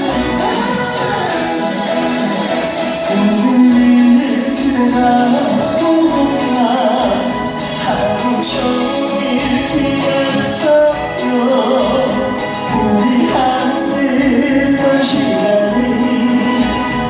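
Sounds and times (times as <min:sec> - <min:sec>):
musical accompaniment: 0:00.0 - 0:17.0
person singing: 0:00.0 - 0:17.0.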